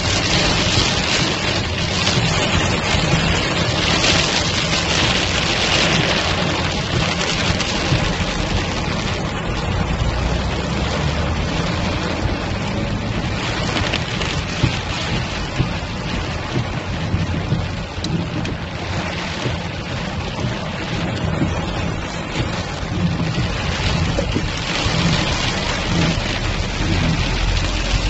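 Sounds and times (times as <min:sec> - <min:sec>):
heavy rain on car roof: 0:00.0 - 0:28.0
steady low rumble: 0:00.0 - 0:28.0.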